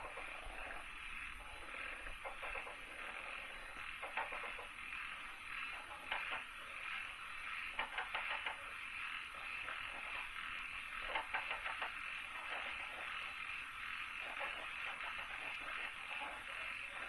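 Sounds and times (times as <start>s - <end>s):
rapid clicking calls: 0.0s - 17.0s
steady high hiss: 0.0s - 17.0s.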